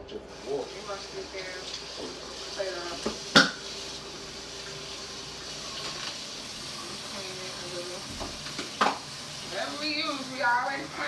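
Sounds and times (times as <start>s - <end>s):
kitchen faucet running into sink: 0.3s - 11.0s.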